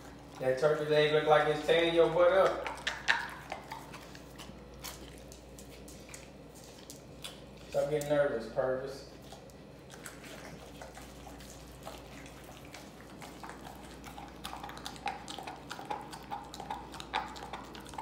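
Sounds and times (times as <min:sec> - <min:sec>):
dog gnawing and licking meat: 0:00.0 - 0:18.0.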